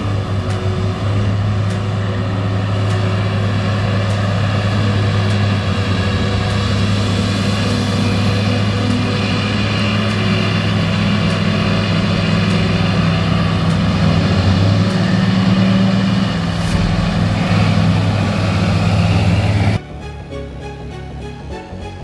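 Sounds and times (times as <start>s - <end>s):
heavy machine engine running: 0.0s - 22.0s.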